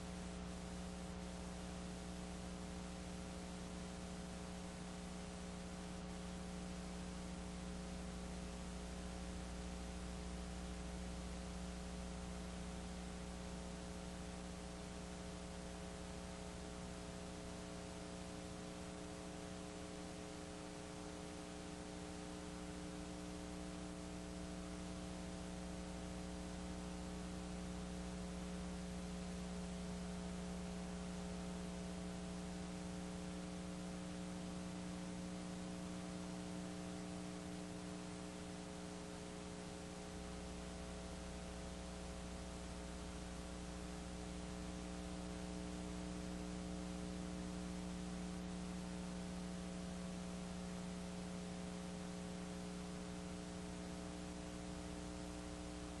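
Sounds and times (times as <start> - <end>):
constant hiss: 0.0 - 56.0
electrical mains hum: 0.0 - 56.0.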